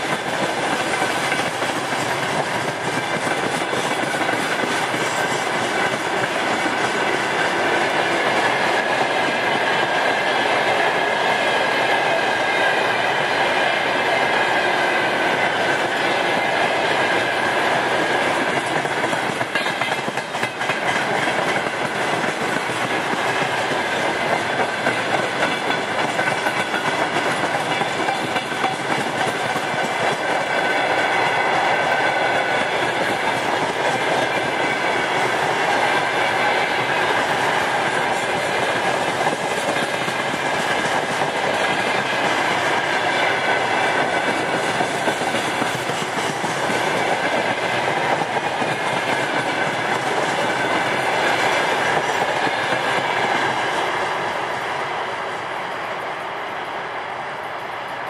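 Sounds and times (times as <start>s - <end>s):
clickety-clack over rail joints: 0.0s - 55.0s
steel wheels rumbling on rails: 0.0s - 58.0s.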